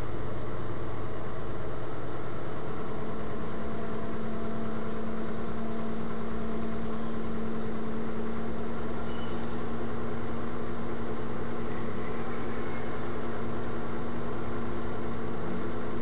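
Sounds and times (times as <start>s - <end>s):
steady hum: 0.0s - 16.0s
vehicle engine running: 0.0s - 16.0s.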